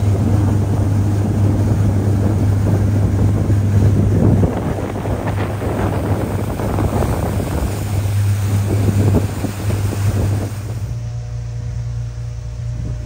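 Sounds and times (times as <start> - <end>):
wind buffeting microphone: 0.0 - 11.1
water rushing past hull: 0.0 - 12.0
low engine hum: 0.0 - 13.0.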